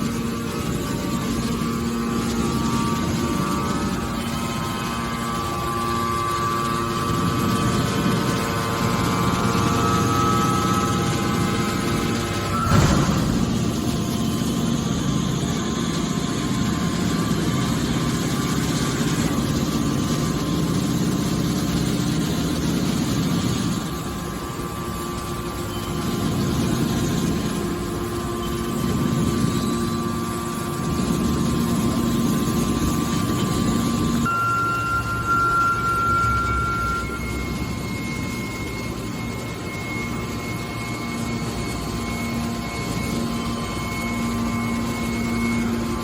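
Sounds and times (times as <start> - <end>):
machine drone with whine: 0.0 - 46.0.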